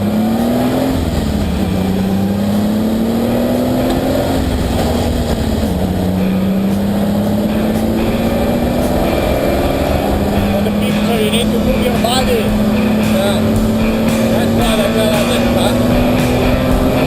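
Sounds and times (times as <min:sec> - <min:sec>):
sports car engine running hard: 0:00.0 - 0:17.0.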